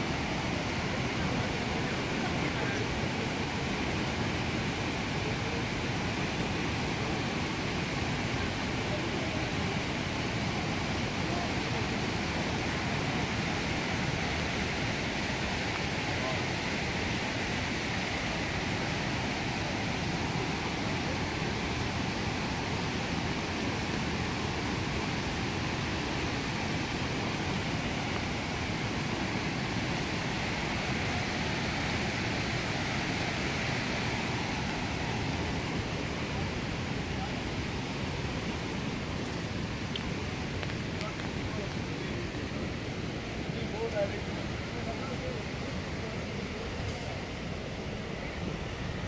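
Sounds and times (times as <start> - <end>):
floodwater rushing over weir: 0.0 - 49.0.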